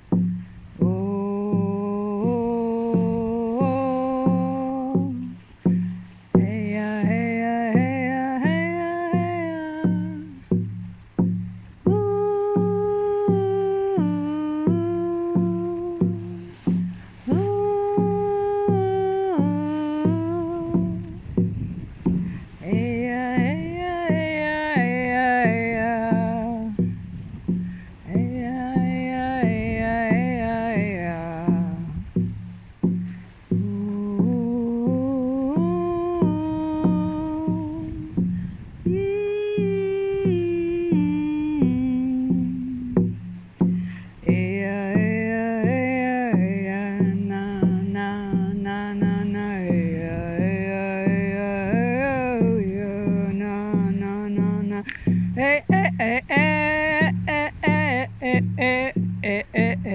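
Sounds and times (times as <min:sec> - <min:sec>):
hand drum beating: 0:00.0 - 0:59.9
woman singing wordless tones: 0:00.0 - 0:59.9.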